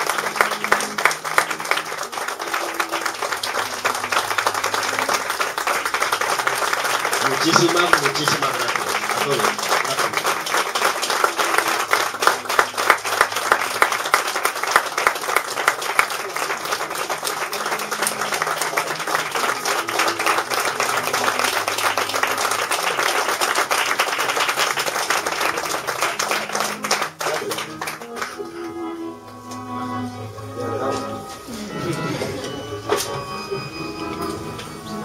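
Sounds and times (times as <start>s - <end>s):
audience applause: 0.0s - 29.7s, 30.3s - 35.0s.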